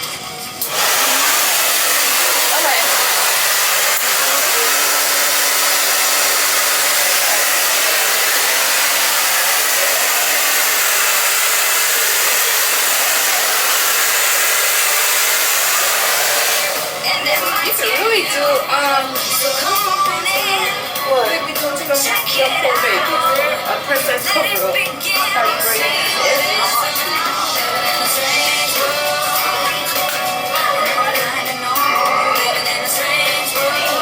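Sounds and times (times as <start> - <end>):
hair dryer blowing: 0.6 - 31.3.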